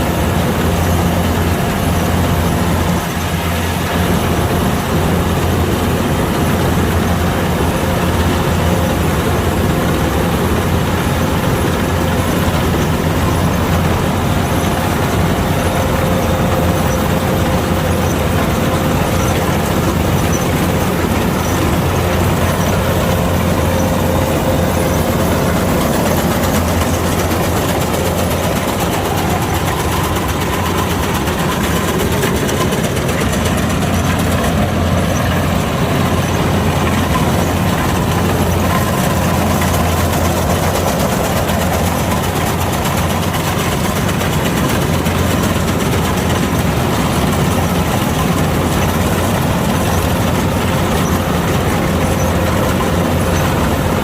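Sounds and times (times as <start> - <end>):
diesel engine drone: 0.0 - 54.0
threshing machinery rushing: 0.0 - 54.0.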